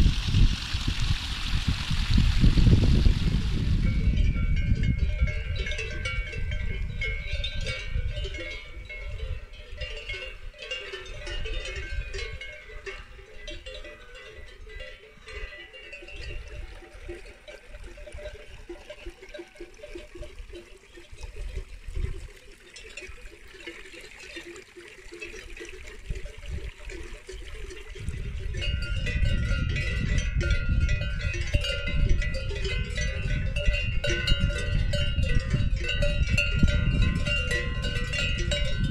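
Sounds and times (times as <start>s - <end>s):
livestock bells clanking: 3.7s - 38.9s.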